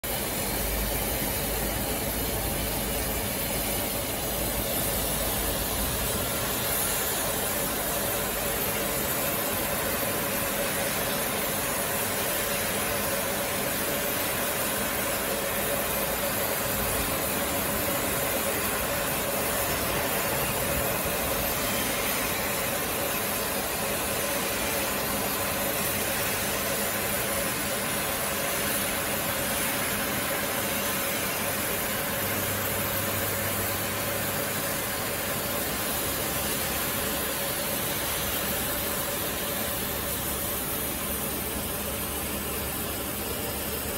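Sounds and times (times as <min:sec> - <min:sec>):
cutting jets hissing: 0:00.1 - 0:43.9.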